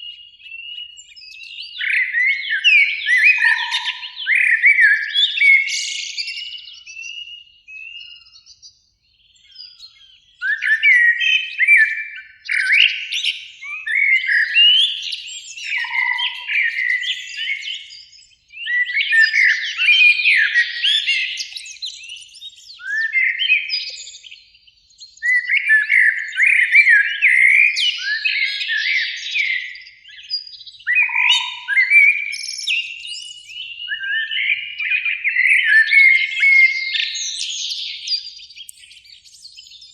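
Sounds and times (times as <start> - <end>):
blackbirds singing: 0.0 - 39.9.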